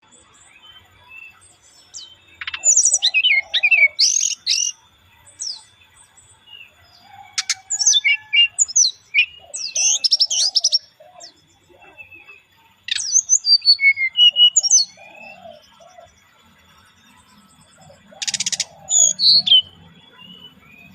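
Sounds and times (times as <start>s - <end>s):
bird chirping and warbling: 0.0s - 20.9s.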